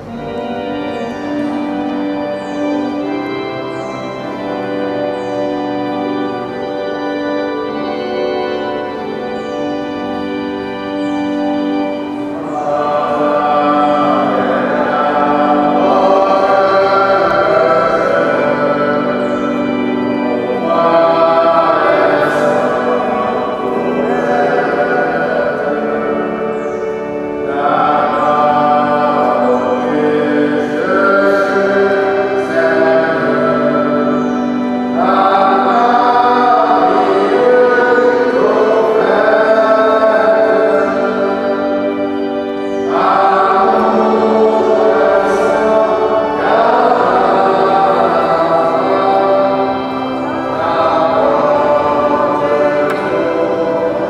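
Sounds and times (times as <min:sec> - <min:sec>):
congregation singing a hymn: 0:00.0 - 0:54.0
organ accompaniment: 0:00.0 - 0:54.0.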